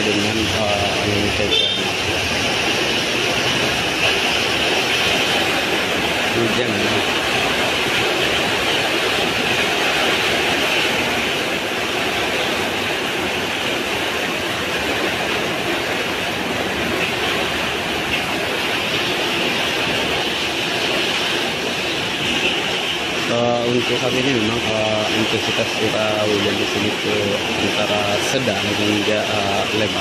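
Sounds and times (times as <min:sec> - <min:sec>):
heavy rain in strong wind: 0:00.0 - 0:30.0.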